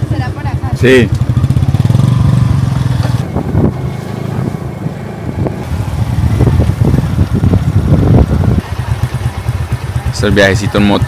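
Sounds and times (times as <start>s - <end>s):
motorcycle engine drone: 0.0s - 11.0s.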